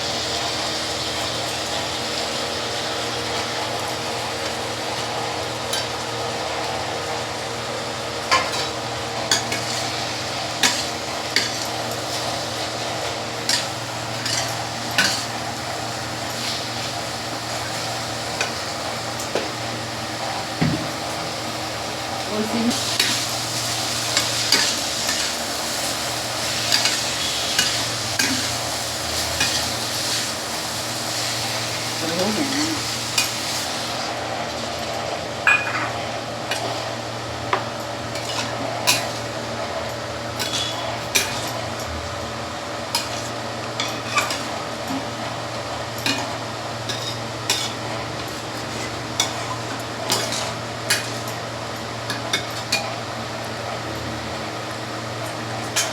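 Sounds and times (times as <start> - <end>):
food sizzling in a pan: 0.0 - 53.8.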